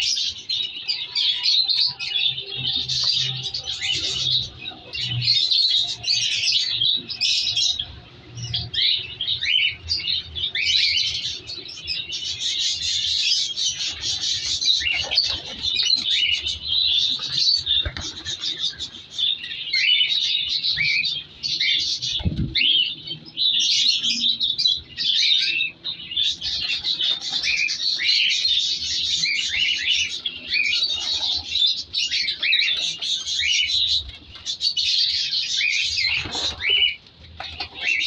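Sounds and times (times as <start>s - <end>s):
cockatiels chirping: 0.0s - 38.0s.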